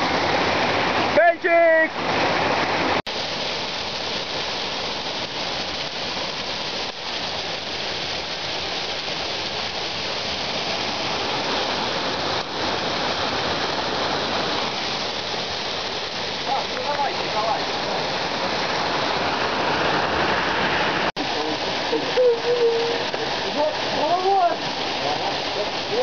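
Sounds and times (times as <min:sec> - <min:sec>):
waterfall pouring over rocks: 0:00.0 - 0:26.0.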